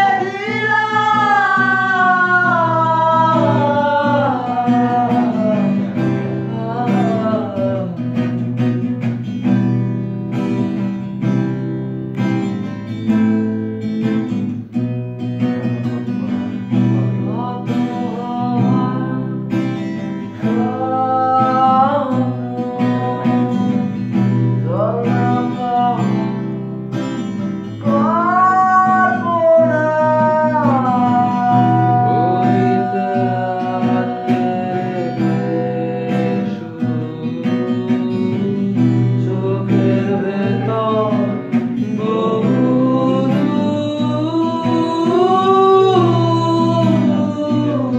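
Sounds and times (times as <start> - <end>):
acoustic guitar strummed: 0.0 - 47.9
man singing: 0.0 - 47.9.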